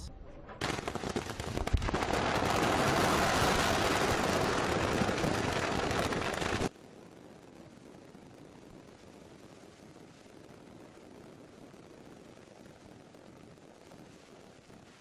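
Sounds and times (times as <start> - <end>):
firecrackers crackling: 0.6 - 15.0.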